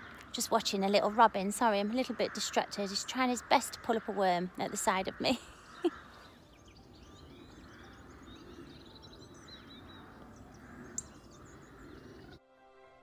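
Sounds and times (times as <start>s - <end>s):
small birds chirping and trilling: 0.0s - 12.4s.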